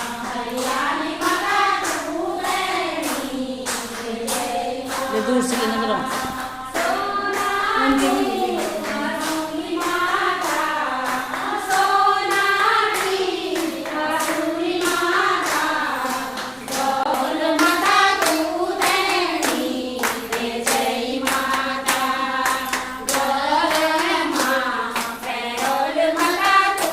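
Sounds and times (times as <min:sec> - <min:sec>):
rhythmic hand clapping: 0:00.0 - 0:26.9
voices singing in chorus: 0:00.0 - 0:26.9.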